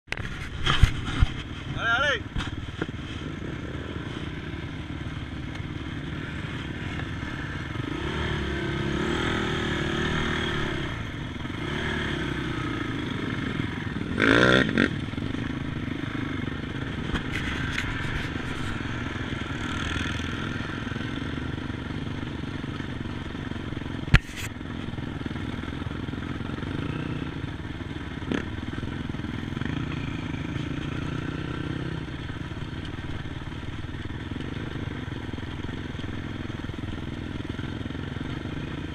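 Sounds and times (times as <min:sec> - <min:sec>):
atv engines running: 0:00.1 - 0:38.9.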